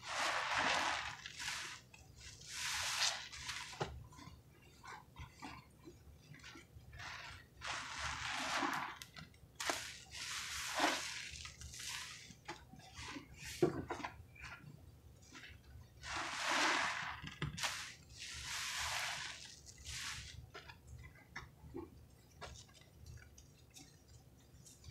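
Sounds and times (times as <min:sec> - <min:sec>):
sponge squelching in suds: 0:00.0 - 0:24.9.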